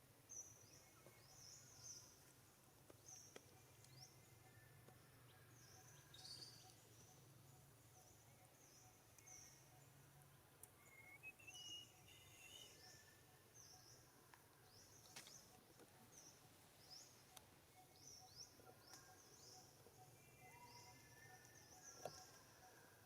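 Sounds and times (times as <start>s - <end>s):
small bird chirping: 3.0s - 22.8s.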